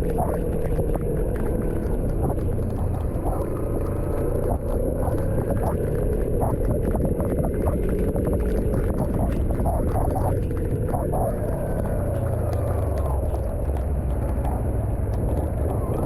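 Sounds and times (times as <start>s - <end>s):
vehicle rumbling on a road: 0.0s - 16.0s
wind buffeting microphone: 0.0s - 16.0s.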